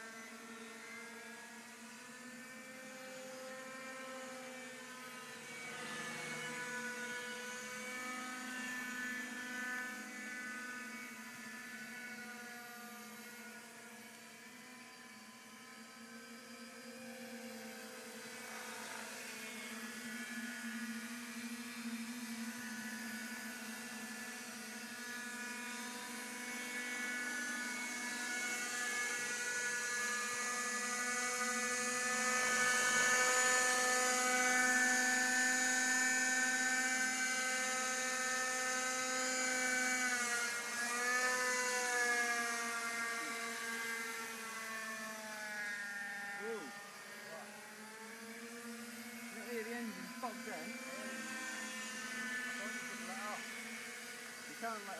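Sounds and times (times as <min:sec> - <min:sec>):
model aircraft whining: 0:00.0 - 0:54.9.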